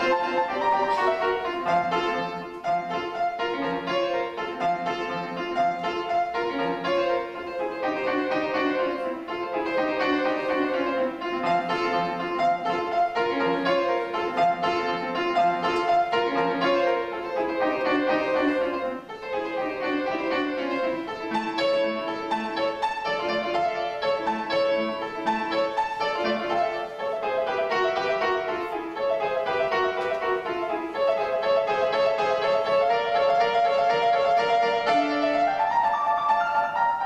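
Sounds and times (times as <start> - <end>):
fast solo piano runs: 0.0 - 37.0.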